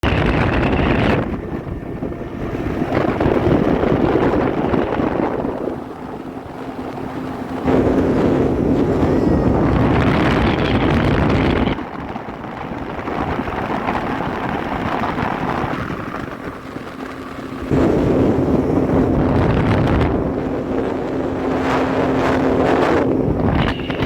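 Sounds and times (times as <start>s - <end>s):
speedboat engine running: 0.0s - 24.0s
wind buffeting microphone: 0.0s - 24.0s.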